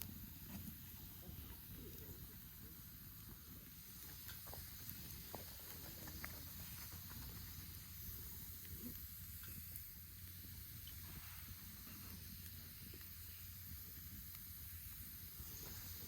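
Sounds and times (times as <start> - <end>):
campfire hissing and crackling: 0.0 - 16.0.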